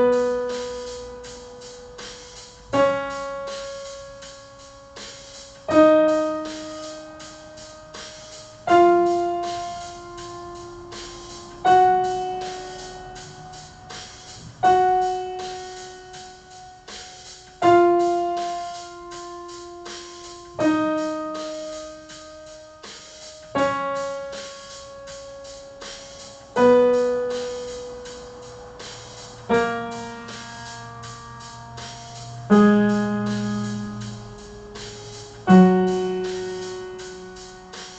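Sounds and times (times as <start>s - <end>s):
faint drum beat: 0.0s - 37.9s
keyboard playing a scale: 0.0s - 37.9s.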